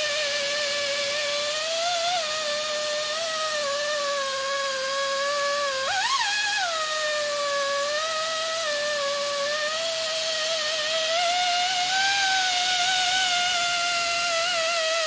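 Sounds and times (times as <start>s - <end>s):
air hissing: 0.0s - 15.0s
air sander whining: 0.0s - 15.0s.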